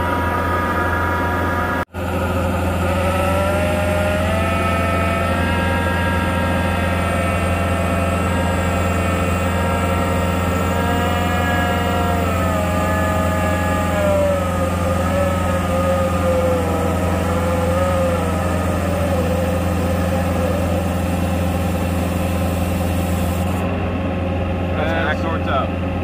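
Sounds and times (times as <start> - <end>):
hydraulic driver whine: 0.0 - 25.6
skid-steer engine running: 0.0 - 26.0.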